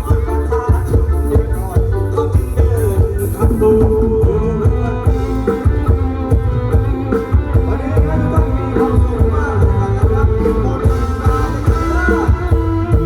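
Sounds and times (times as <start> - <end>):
band music: 0.0 - 13.0
guitar: 0.0 - 13.0.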